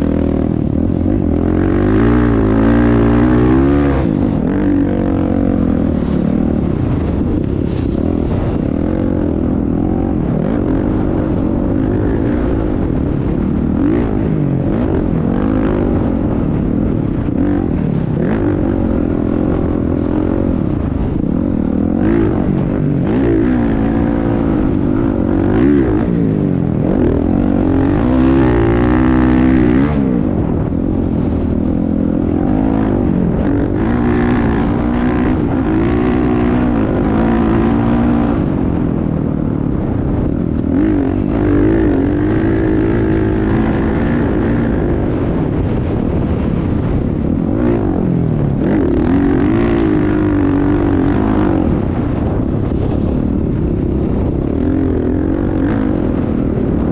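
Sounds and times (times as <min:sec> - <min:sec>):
motocross bike engine revving: 0:00.0 - 0:39.0, 0:39.6 - 0:56.9.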